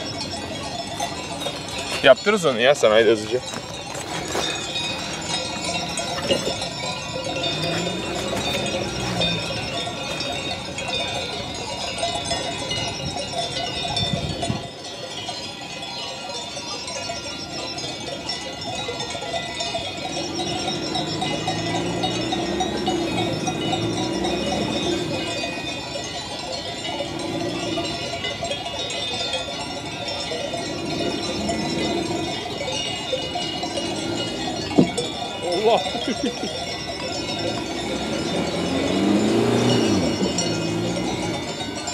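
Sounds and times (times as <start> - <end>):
sheep bells ringing: 0.0 - 41.9.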